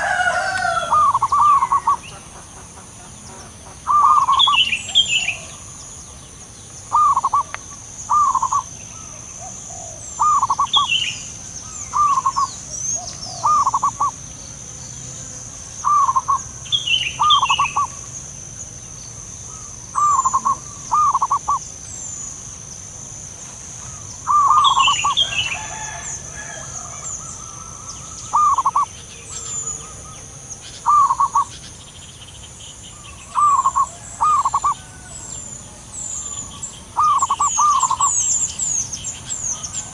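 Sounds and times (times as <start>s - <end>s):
doves cooing: 0.0s - 5.8s, 6.9s - 14.3s, 15.2s - 18.2s, 19.5s - 21.7s, 23.8s - 31.7s, 33.0s - 39.9s
small birds chirping: 0.0s - 39.9s.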